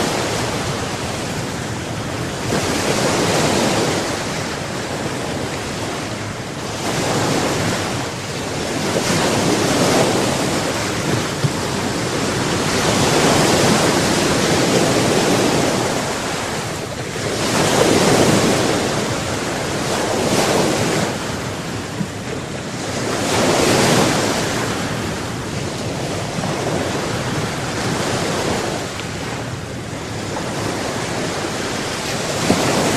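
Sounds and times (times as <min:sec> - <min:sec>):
waves breaking on the shore: 0:00.0 - 0:32.9
wind on the microphone: 0:00.0 - 0:32.9.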